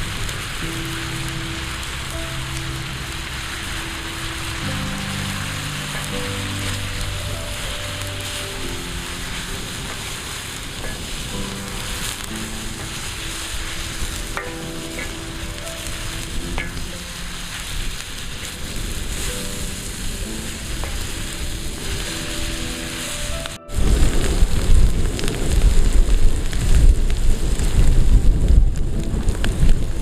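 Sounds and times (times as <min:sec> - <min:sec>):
background music: 0:00.0 - 0:26.0
meat and vegetables sizzling: 0:00.0 - 0:30.0.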